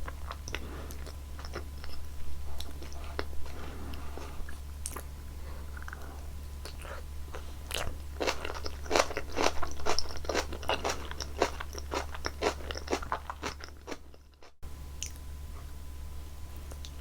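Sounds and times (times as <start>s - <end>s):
chewing with moist clicks: 0.0s - 3.6s, 4.4s - 5.1s, 5.7s - 15.2s, 16.6s - 17.0s.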